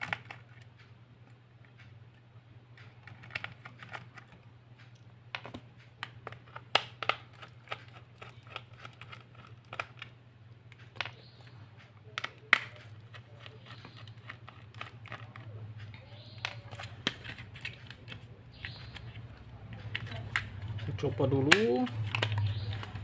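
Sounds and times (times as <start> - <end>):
laptop parts clicking and knocking: 0.0 - 0.9, 2.7 - 4.4, 5.3 - 23.0
steady low hum: 0.0 - 23.0.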